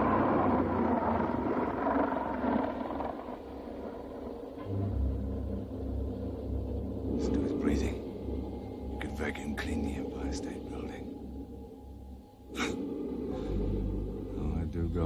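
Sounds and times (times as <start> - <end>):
loud deep rumble: 0.0 - 15.0
lower steady rumble: 0.0 - 15.0.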